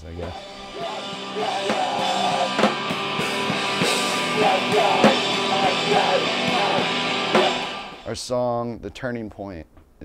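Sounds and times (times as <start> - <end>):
rock band music: 0.0 - 8.1
drum kit beating: 0.0 - 8.2.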